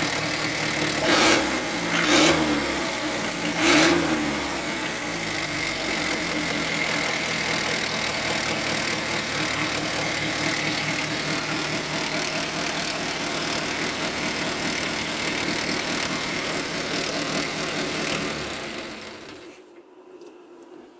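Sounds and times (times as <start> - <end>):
diesel engine running: 0.0 - 19.6.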